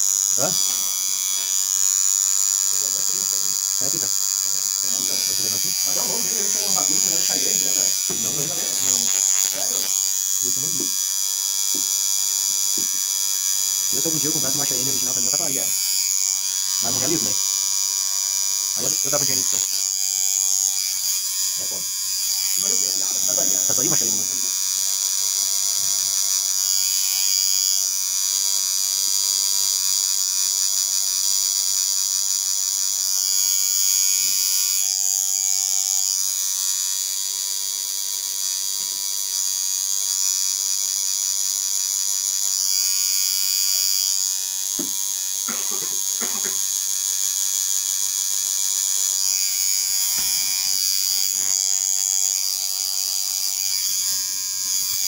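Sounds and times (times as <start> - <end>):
tattoo machine buzzing: 0.0 - 55.0.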